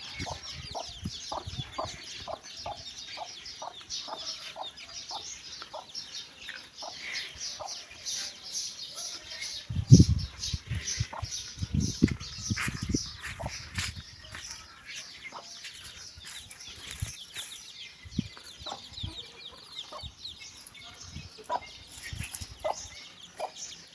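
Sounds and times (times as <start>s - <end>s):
chicks peeping: 0.0s - 23.9s.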